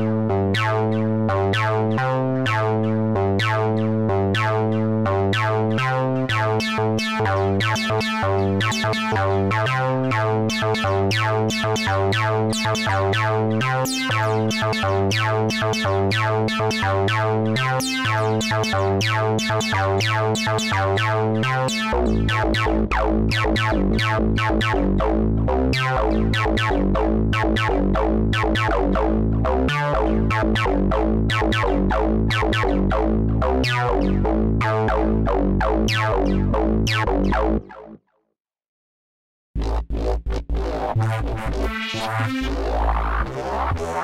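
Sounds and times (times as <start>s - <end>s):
sustained synth bass line: 0.0s - 38.0s, 39.6s - 44.0s
synth plucked notes: 0.0s - 38.0s, 39.6s - 44.0s.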